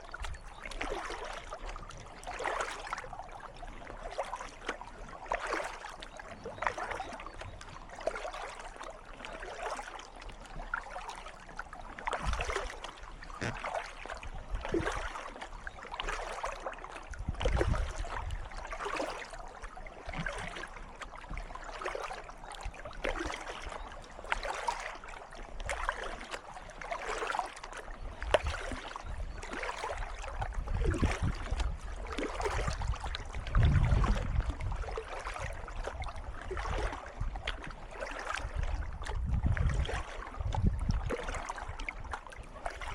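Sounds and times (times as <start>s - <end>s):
kayak paddle splashing: 0.0s - 42.9s
water trickling along hull: 0.0s - 42.9s.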